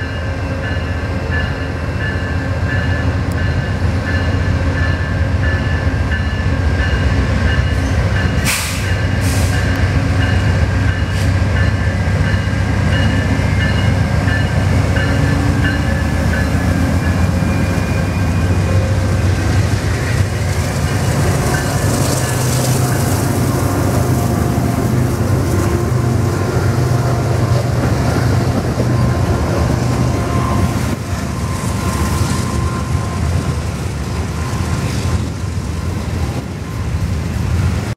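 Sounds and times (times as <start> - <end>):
passenger train rolling past: 0.0 - 37.9.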